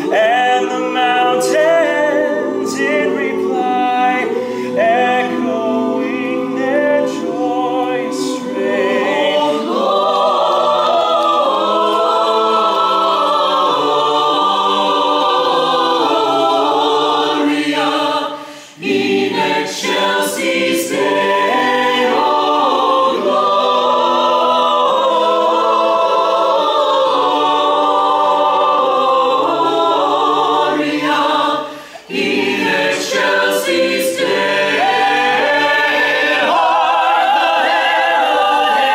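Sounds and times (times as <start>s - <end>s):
choir singing a carol: 0.0s - 38.9s.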